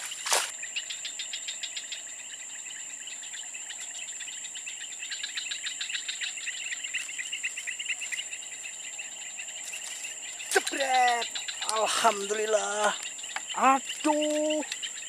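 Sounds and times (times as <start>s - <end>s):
insects high-pitched whine: 0.0s - 15.0s
insects rapid pulsing trill: 0.0s - 15.0s.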